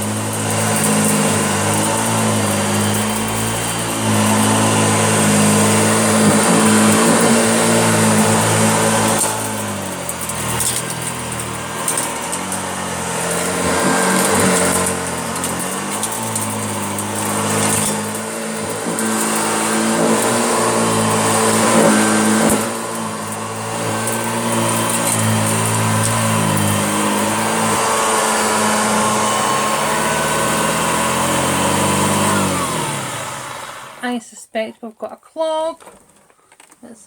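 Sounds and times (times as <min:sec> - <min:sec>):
vacuum cleaner motor humming: 0:00.0 - 0:34.1.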